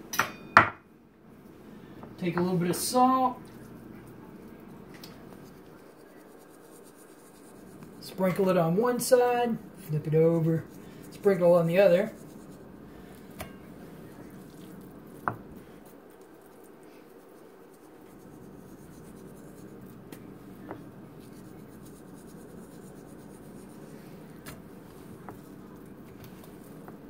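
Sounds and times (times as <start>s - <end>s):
low room hum: 0.0s - 27.0s
meat rubbing and squishing: 3.4s - 27.0s.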